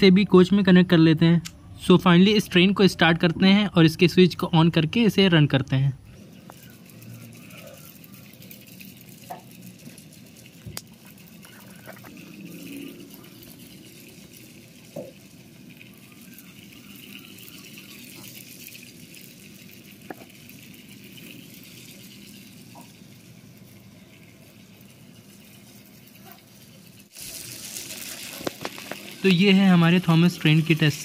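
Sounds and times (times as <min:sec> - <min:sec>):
toy train motor whirring: 0:06.2 - 0:31.0.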